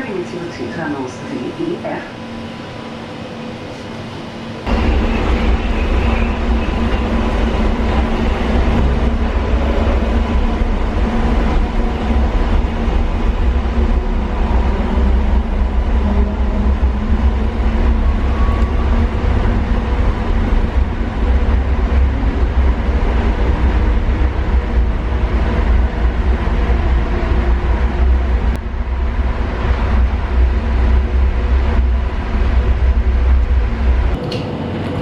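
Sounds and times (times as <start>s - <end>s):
shuttle train running rumble: 0.0s - 35.0s.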